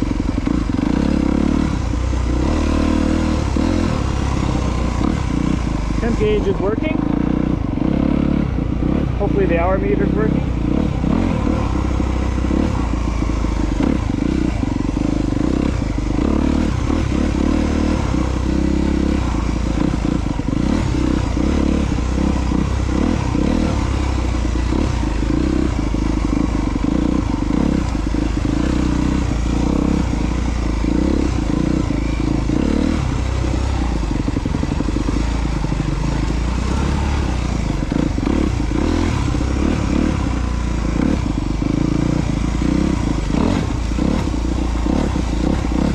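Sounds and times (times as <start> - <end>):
motorbike engine running: 0.0 - 45.9.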